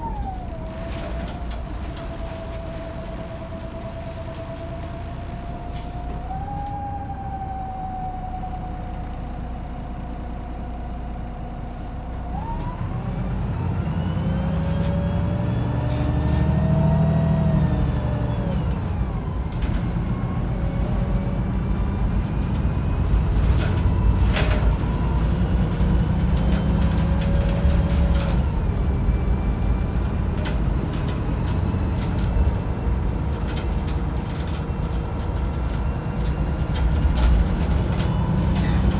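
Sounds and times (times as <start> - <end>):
bus engine and drivetrain whine: 0.0 - 38.9.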